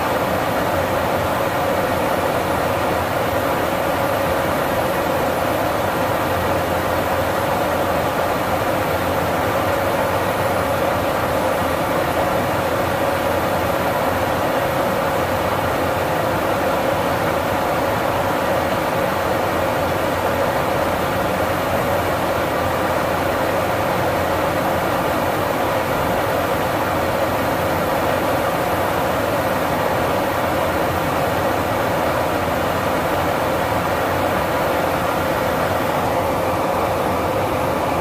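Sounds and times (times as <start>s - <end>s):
jet aircraft cabin drone: 0.0s - 38.0s.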